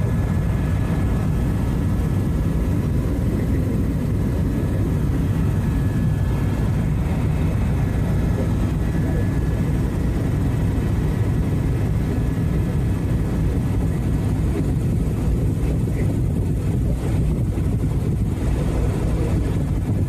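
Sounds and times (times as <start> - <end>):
faint high whine: 0.0 - 20.0
helicopter rotor and turbine rumble: 0.0 - 20.0.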